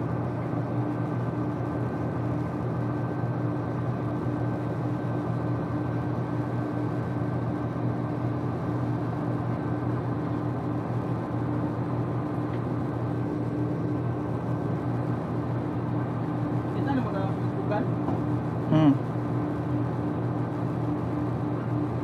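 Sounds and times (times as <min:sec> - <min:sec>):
boat engine droning: 0:00.0 - 0:22.0
wind: 0:00.0 - 0:22.0.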